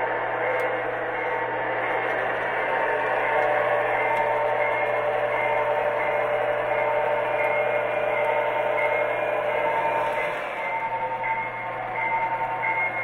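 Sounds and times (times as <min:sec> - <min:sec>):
model train running noise: 0:00.0 - 0:13.0.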